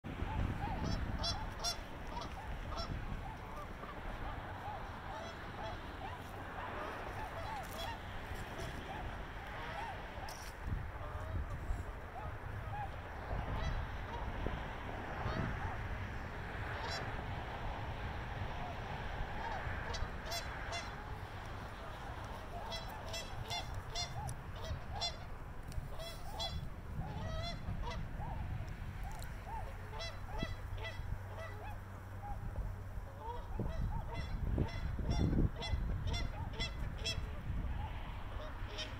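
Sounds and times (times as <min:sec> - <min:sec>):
swans calling: 0:00.1 - 0:14.4, 0:16.6 - 0:17.2, 0:18.6 - 0:38.9
steady low rumble: 0:00.1 - 0:38.9.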